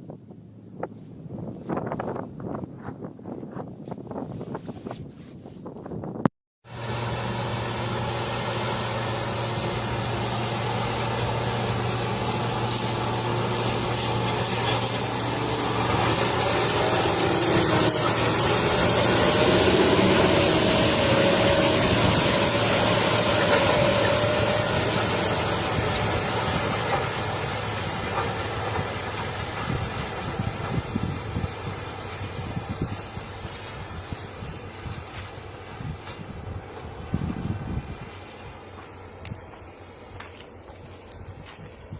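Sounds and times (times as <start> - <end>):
tractor engine running: 6.7 - 41.9.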